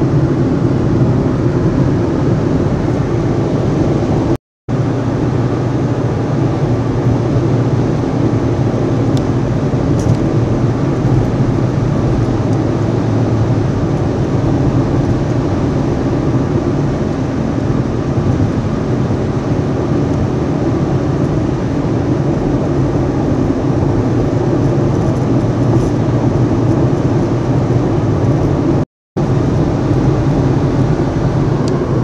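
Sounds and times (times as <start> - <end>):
car cabin road and engine noise: 0.0 - 32.0.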